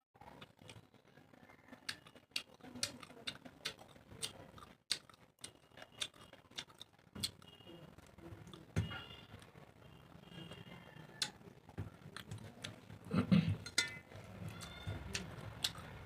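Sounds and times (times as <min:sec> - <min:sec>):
person chewing and eating: 0:00.2 - 0:01.1, 0:01.7 - 0:09.6, 0:10.5 - 0:16.0.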